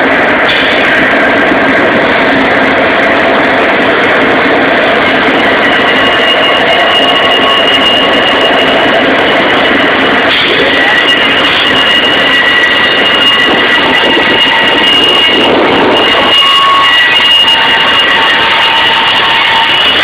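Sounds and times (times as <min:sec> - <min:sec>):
diesel locomotive engines: 0:00.0 - 0:20.0
wheels rumbling on rail: 0:00.0 - 0:20.0
wheel flanges squealing: 0:00.3 - 0:20.0.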